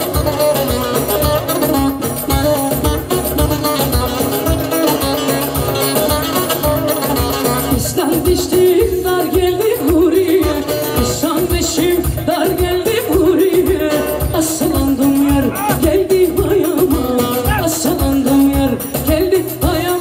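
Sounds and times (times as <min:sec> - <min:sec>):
plucked strings: 0:00.0 - 0:20.0
steady drum beat: 0:00.0 - 0:20.0.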